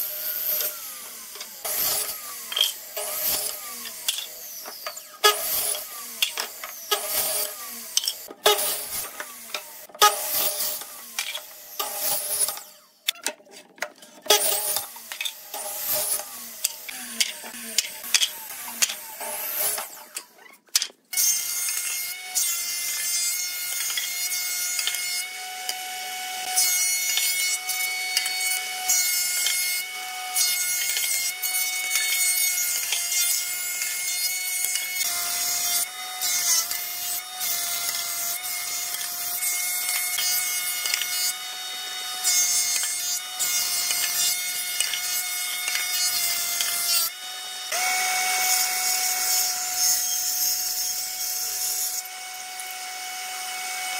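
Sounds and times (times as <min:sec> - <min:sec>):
woodworking machine whining: 0:00.0 - 0:13.0, 0:14.1 - 0:20.4, 0:21.1 - 0:53.9
planer cutter shaving wood: 0:00.0 - 0:53.9.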